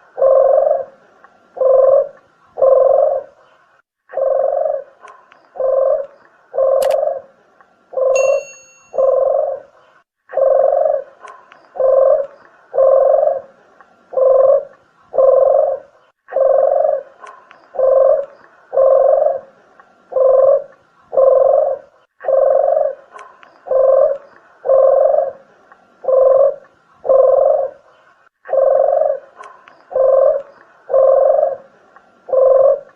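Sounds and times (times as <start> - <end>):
dove cooing: 0.0 - 1.0, 1.6 - 3.4, 4.1 - 27.8, 28.4 - 32.9.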